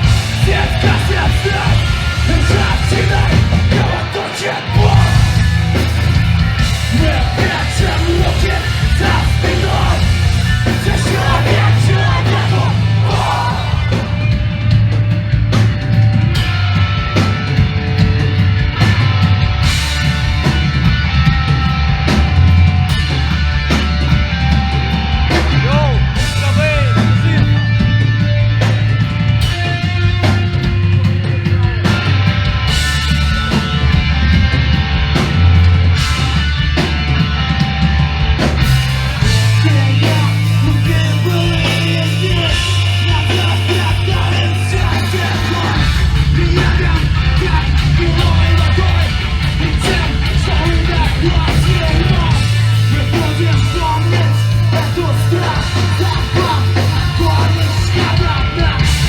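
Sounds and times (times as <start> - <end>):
bass guitar: 0.0 - 59.0
distorted guitars: 0.0 - 59.0
drums: 0.0 - 59.0
yelled vocals: 0.0 - 59.0.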